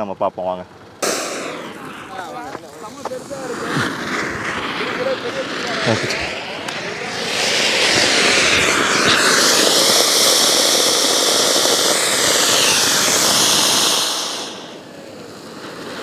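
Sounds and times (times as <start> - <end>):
firework fountain hissing: 0.7 - 16.0.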